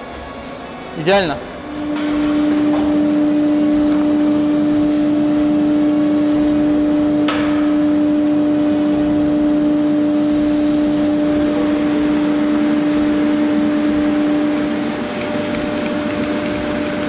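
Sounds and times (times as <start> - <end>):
woodworking machine humming: 1.5 - 17.0.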